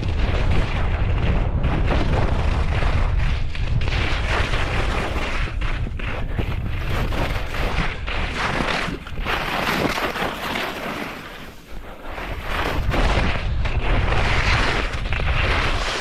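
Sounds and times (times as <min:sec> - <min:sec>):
wind buffeting microphone: 0:00.0 - 0:10.4, 0:11.7 - 0:16.0
skis scraping over hard snow: 0:00.0 - 0:16.0.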